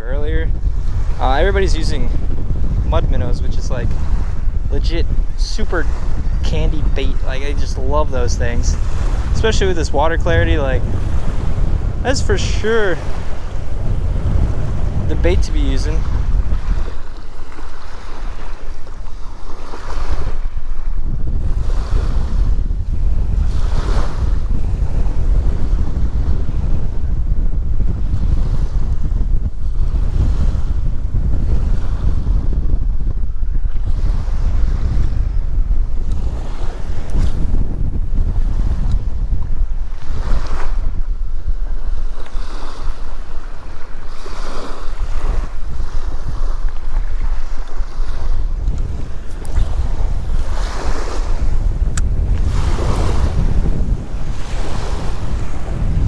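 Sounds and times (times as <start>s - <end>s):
small waves breaking on sand: 0.0s - 27.1s, 27.8s - 56.0s
wind buffeting microphone: 0.0s - 56.0s.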